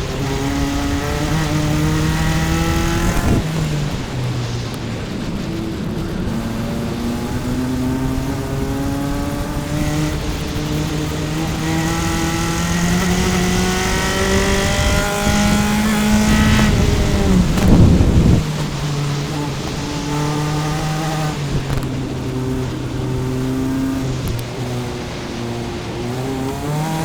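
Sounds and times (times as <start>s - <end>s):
engine rough burst: 0.0s - 27.0s
race car engine revving: 0.0s - 27.0s.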